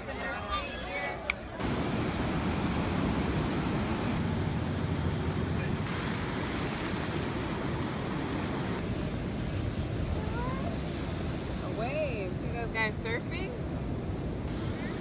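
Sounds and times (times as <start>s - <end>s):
ocean surf: 0.9s - 15.0s.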